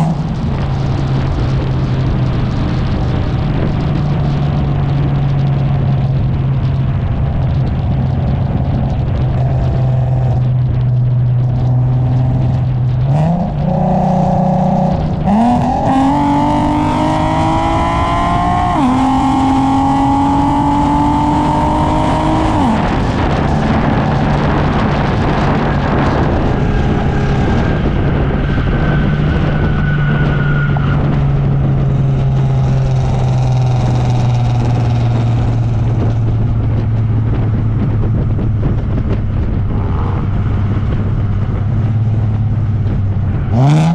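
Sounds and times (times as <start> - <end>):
car exhaust revving: 0.0 - 43.9
road rush: 0.0 - 43.9.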